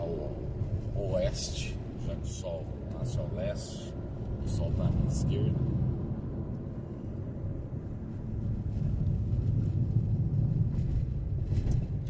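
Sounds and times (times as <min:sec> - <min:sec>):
car engine: 0:00.0 - 0:12.0
tyres rumbling on asphalt: 0:00.0 - 0:12.0.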